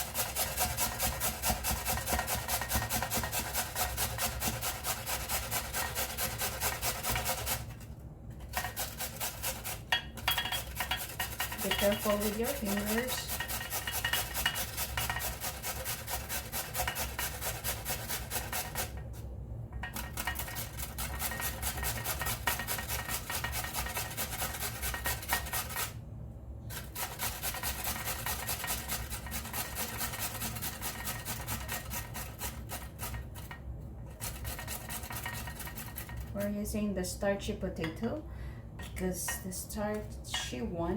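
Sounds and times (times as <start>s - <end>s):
potato rasping on grater: 0.0s - 19.0s, 19.9s - 26.0s, 26.7s - 36.6s.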